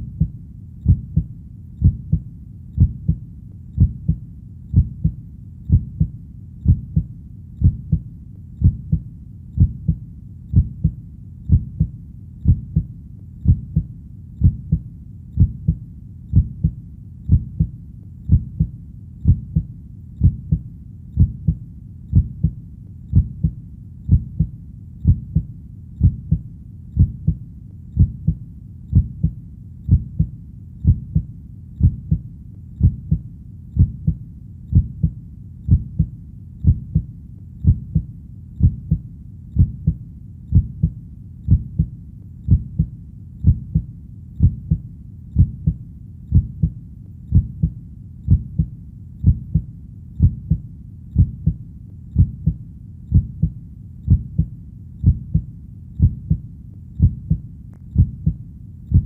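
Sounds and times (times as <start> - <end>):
heartbeat double thump: 0.0 - 2.2, 2.8 - 3.2, 3.8 - 8.0, 8.6 - 9.0, 9.6 - 14.8, 15.4 - 17.7, 18.3 - 20.6, 21.2 - 26.4, 27.0 - 27.4, 28.0 - 32.2, 32.8 - 33.2, 33.8 - 39.0, 39.6 - 41.9, 42.5 - 44.8, 45.4 - 50.6, 51.2 - 51.6, 52.2 - 56.4, 57.0 - 57.4, 58.0 - 59.0.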